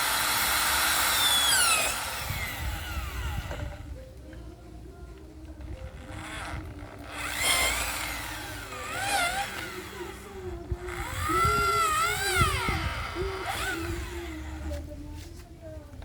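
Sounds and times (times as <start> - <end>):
power tool motor whining: 0.0 - 4.1, 5.5 - 14.9.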